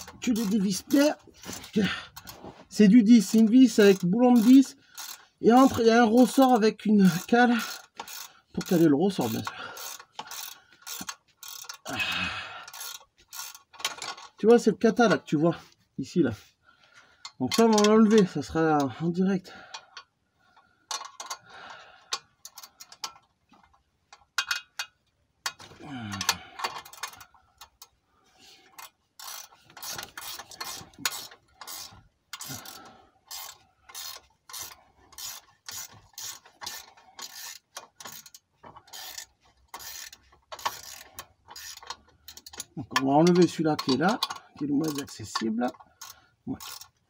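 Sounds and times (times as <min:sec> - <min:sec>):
ratchet wrench clicking: 0:00.0 - 0:02.4, 0:03.2 - 0:14.4, 0:20.9 - 0:21.4, 0:22.0 - 0:28.0, 0:28.7 - 0:47.0.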